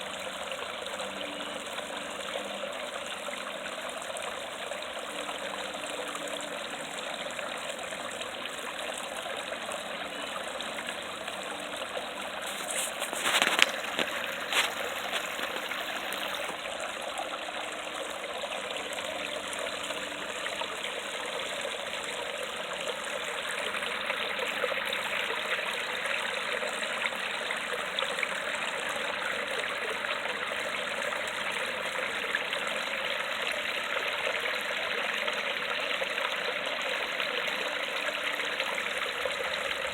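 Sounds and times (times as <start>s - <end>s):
water falling over rocks: 0.0s - 39.9s.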